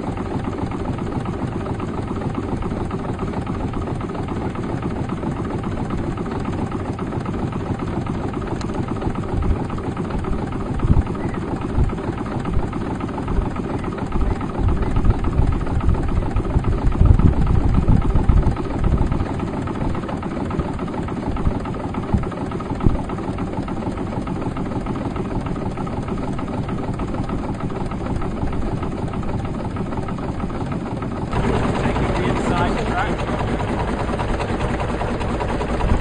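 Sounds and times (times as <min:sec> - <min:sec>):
small boat engine running: 0:00.0 - 0:36.0.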